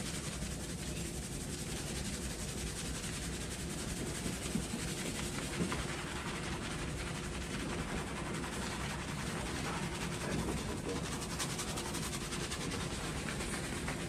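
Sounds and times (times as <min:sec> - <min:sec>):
hands scrubbing lathered hair: 0:00.0 - 0:14.0.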